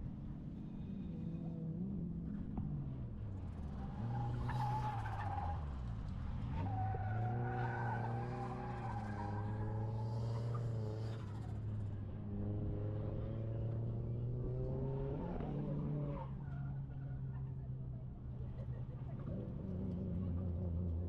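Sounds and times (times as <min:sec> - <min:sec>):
car engine at high revs: 0:00.1 - 0:21.0.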